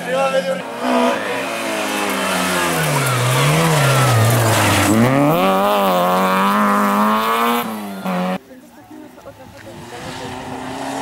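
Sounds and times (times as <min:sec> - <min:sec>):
rally car engine revving: 0:00.0 - 0:08.4, 0:09.4 - 0:11.0.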